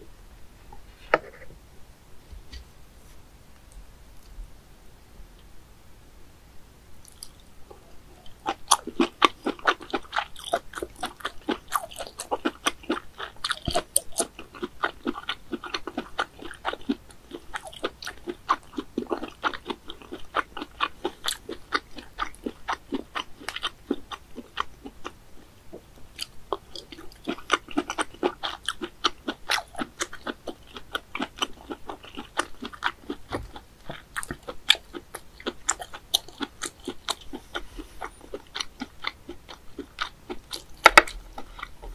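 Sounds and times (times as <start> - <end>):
chewing mouth noises: 7.0 - 41.9.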